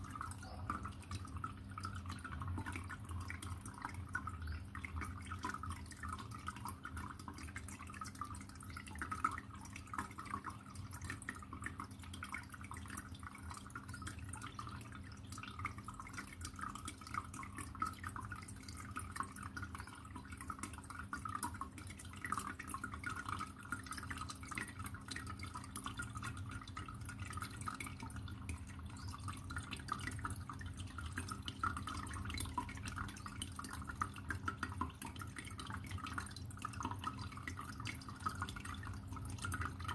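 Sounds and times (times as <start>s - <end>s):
low steady hum: 0.0s - 39.9s
water trickling and dripping: 0.0s - 39.9s.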